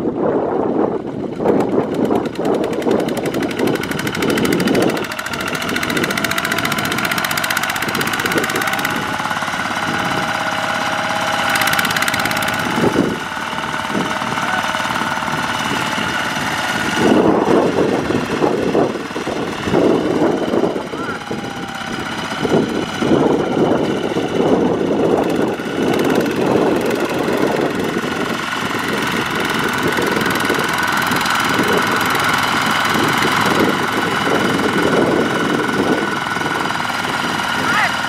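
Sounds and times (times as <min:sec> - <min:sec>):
diesel tractor engines under load: 0:00.0 - 0:38.0.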